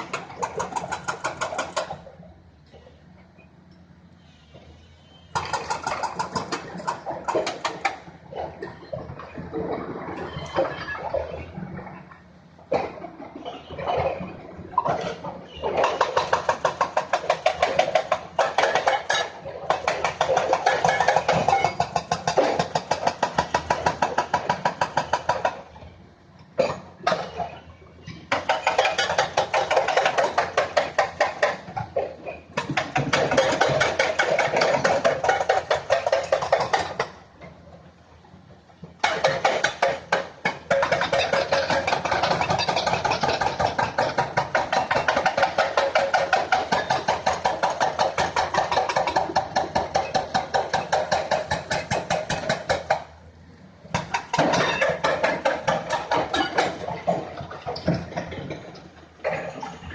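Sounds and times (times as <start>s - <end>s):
excavator rapid pulsing: 0.0s - 3.2s, 5.3s - 27.6s, 28.2s - 59.9s.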